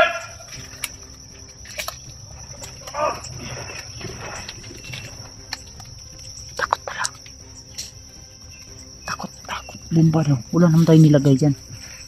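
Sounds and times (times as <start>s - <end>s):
animal calling: 0.0s - 0.9s, 1.6s - 7.8s, 8.6s - 12.0s
insects droning: 0.0s - 12.0s.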